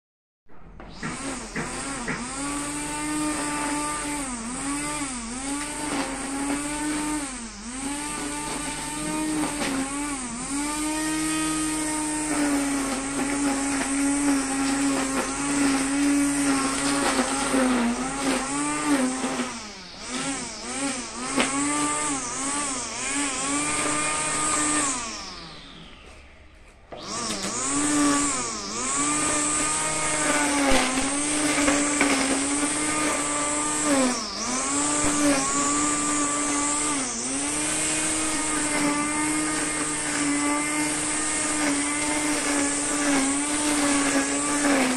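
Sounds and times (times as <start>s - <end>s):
electric string trimmer running: 0.8s - 44.9s.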